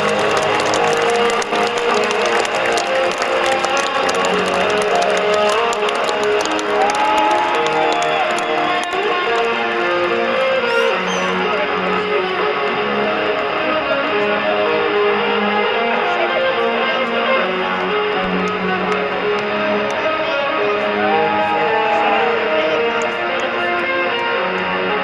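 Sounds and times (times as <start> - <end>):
electric guitar: 0.0 - 25.0.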